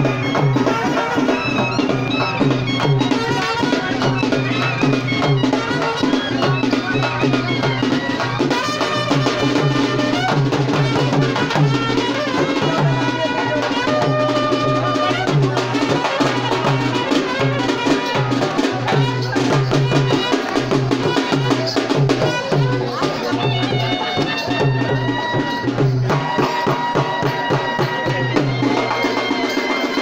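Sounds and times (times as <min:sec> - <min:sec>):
steady drum beat: 0:00.0 - 0:30.0
trumpet melody: 0:00.0 - 0:30.0.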